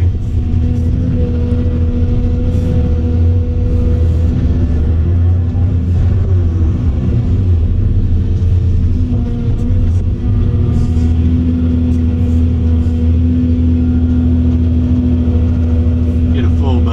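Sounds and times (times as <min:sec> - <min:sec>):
excavator diesel engine drone: 0:00.0 - 0:16.9.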